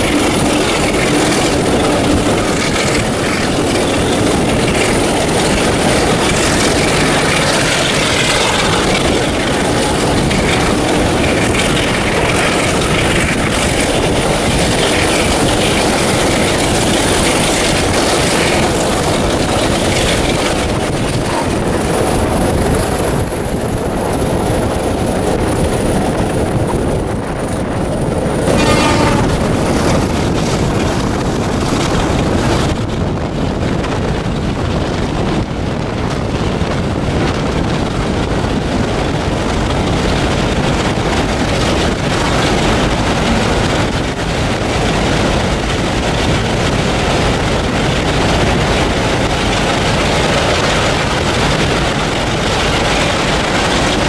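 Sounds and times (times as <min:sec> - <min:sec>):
diesel train running: 0:00.0 - 0:54.0.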